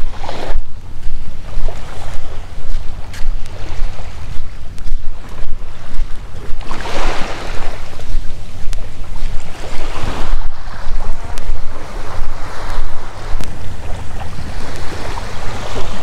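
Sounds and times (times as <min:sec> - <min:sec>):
small waves washing onto sand: 0:00.0 - 0:16.0
wind buffeting microphone: 0:00.0 - 0:16.0.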